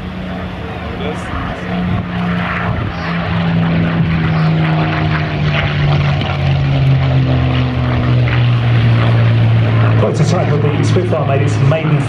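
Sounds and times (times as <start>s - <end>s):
propeller plane engine flypast: 0.0s - 12.0s.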